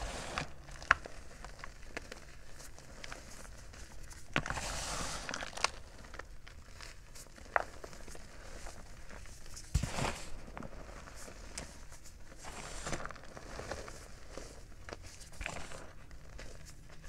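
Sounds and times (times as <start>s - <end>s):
hands crumbling chalk: 0.0s - 17.0s.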